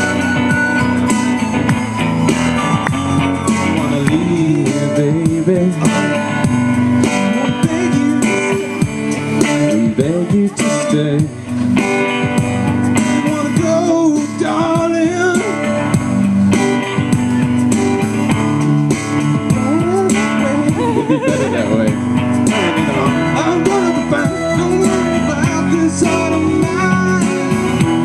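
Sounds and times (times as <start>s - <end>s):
electric guitar lead: 0.0s - 28.0s
keyboard: 0.0s - 28.0s.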